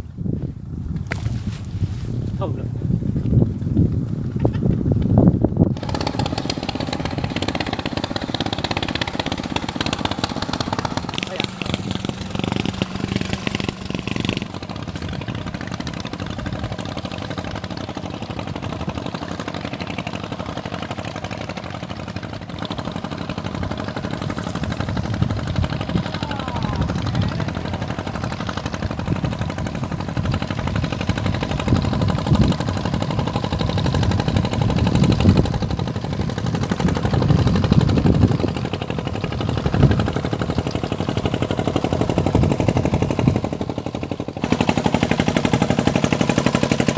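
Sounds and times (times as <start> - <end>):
small boat engine running: 0.0 - 46.9.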